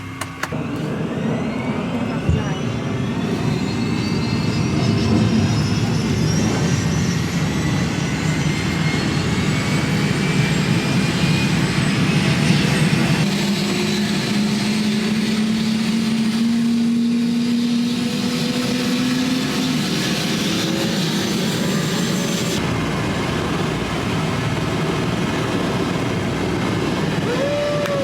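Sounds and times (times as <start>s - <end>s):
helicopter turbine and rotor: 0.0s - 28.0s.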